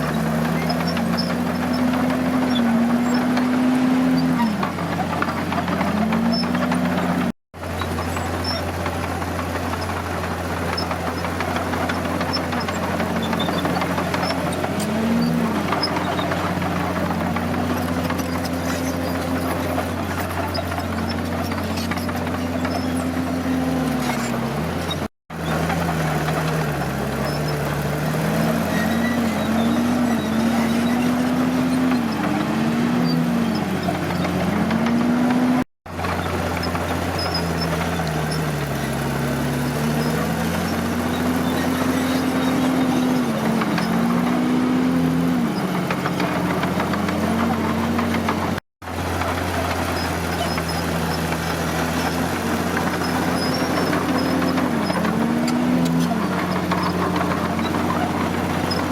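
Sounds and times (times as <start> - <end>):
bulldozer diesel engine working: 0.0 - 58.9.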